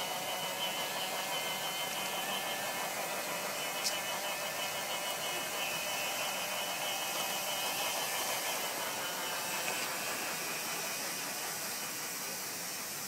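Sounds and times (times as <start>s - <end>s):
faint high electric whine: 0.0s - 11.6s
model train running on track: 0.0s - 13.0s.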